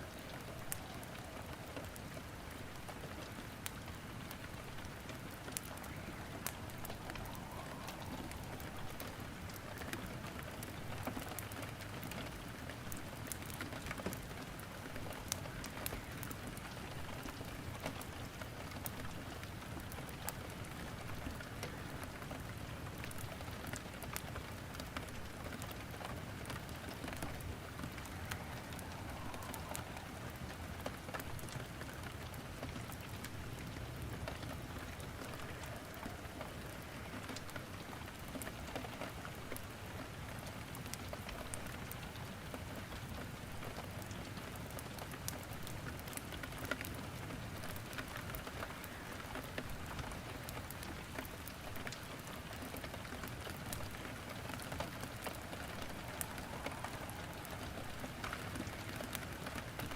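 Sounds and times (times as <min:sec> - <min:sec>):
steady rain falling: 0:00.0 - 0:59.9
wood crackling in fireplace: 0:00.0 - 0:59.9.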